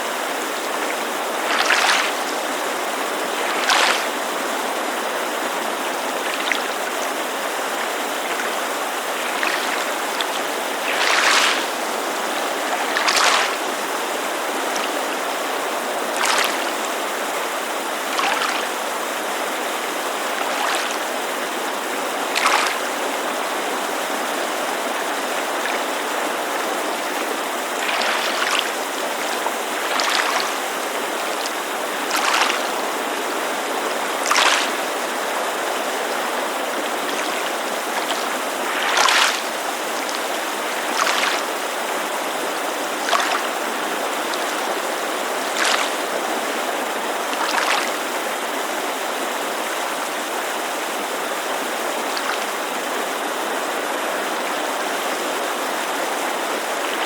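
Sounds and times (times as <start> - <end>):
creek rushing: 0.0 - 57.0
small waves lapping on shore: 0.0 - 57.0.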